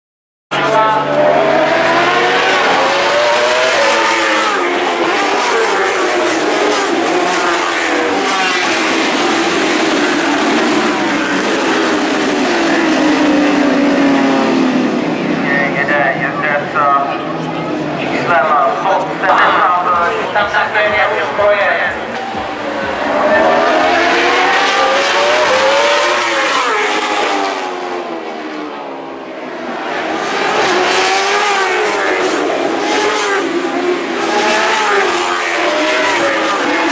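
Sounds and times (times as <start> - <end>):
racing motorcycle engines revving: 0.5 - 36.9.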